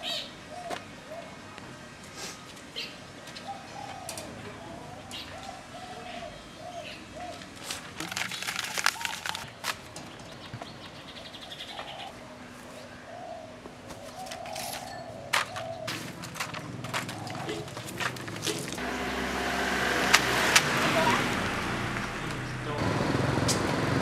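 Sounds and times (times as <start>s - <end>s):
doves cooing: 3.3s - 22.9s.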